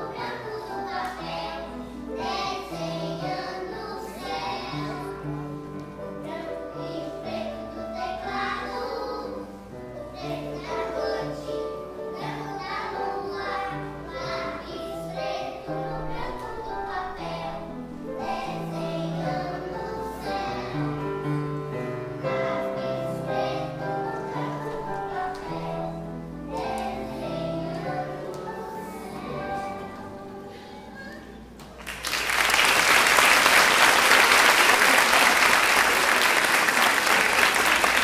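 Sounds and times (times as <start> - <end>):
children's choir singing: 0.0 - 38.0
piano accompaniment: 0.0 - 38.0.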